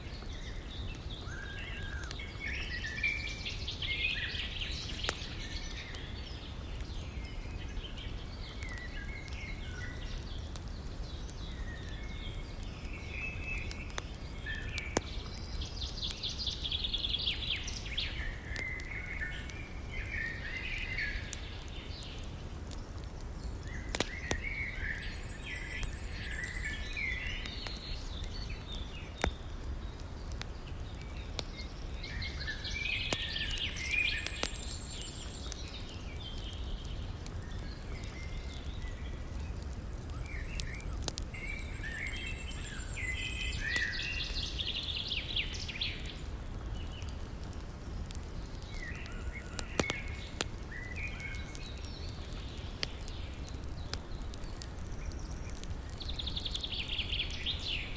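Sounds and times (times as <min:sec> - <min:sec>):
campfire crackling: 0:00.0 - 0:57.9
songbirds singing: 0:00.0 - 0:57.9.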